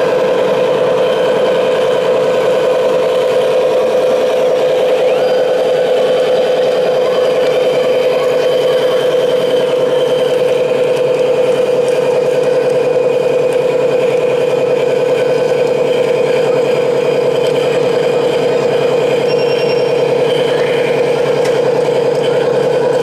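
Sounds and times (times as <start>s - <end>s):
excavator engine drone: 0.0s - 23.0s.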